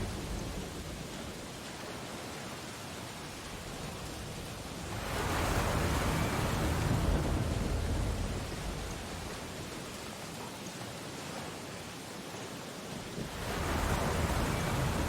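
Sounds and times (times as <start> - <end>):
ocean waves surf: 0.0 - 15.0.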